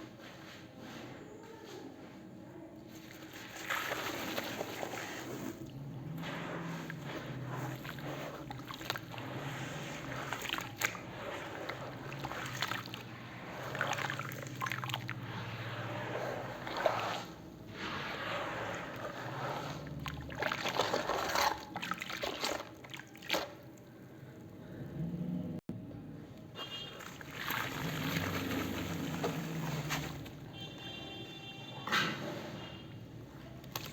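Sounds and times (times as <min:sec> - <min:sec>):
wet cement sloshing: 0:02.9 - 0:25.1, 0:26.6 - 0:31.5, 0:32.1 - 0:33.9.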